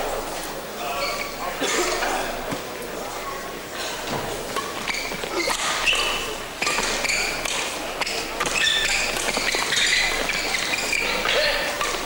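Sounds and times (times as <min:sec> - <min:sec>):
shoes squeaking on court: 0:00.9 - 0:01.4, 0:02.5 - 0:12.0.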